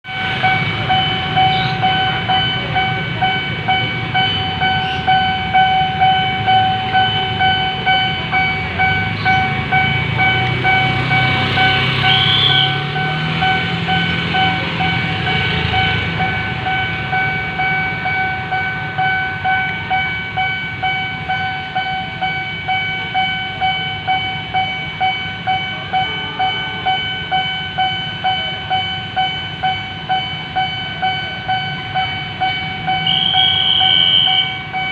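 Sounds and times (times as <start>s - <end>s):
level-crossing warning siren: 0.0s - 34.9s
train passing: 0.0s - 34.9s.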